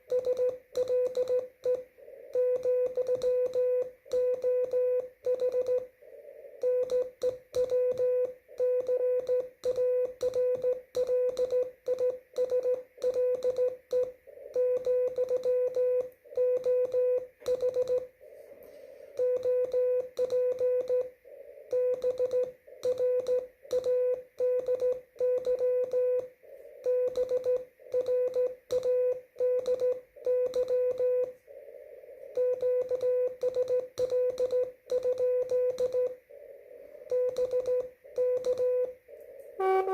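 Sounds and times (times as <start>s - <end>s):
morse code tone: 0.0s - 5.9s, 6.6s - 18.2s, 21.7s - 31.4s, 32.4s - 36.2s, 37.1s - 39.9s.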